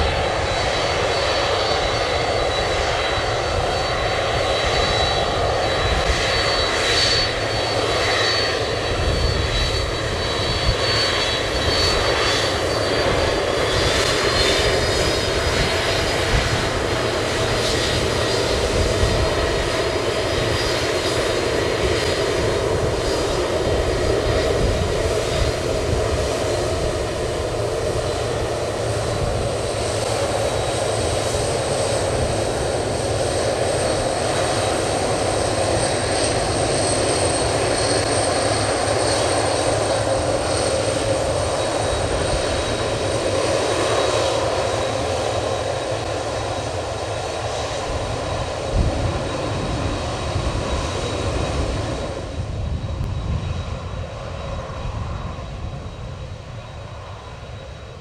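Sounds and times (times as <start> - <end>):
higher engine whine: 0.0 - 58.0
jet engines rumbling with fan whine: 0.0 - 58.0.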